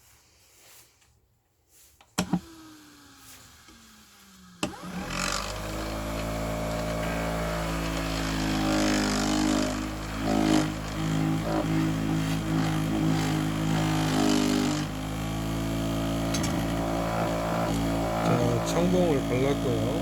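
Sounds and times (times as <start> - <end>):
grinding machine motor humming: 2.4 - 20.0.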